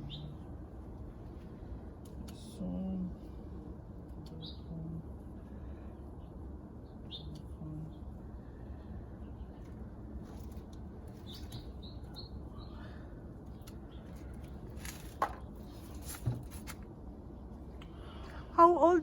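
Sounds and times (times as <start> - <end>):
small birds chirping: 0.0 - 16.3.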